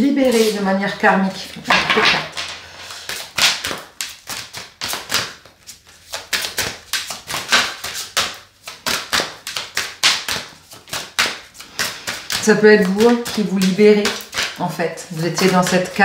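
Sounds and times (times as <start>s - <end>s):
cards being shuffled: 0.2s - 0.7s, 1.6s - 16.0s.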